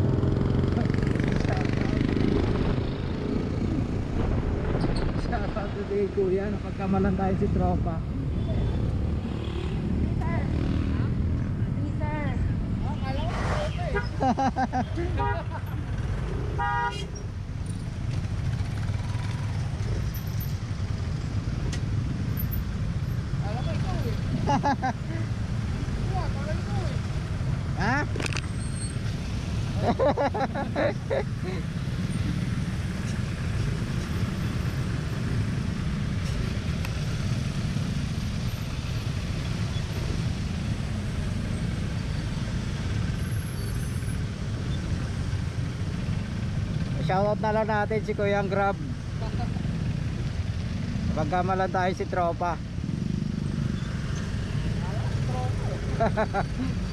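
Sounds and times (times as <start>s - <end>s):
traffic rumble: 0.0s - 56.9s.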